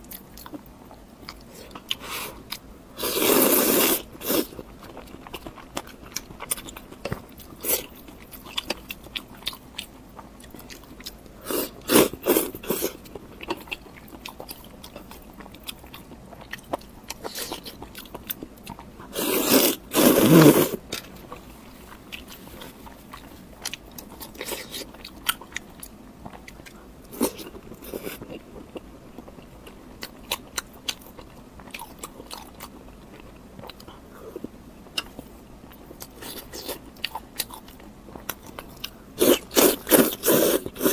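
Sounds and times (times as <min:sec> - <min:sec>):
crunching and chewing: 0:00.0 - 0:40.9.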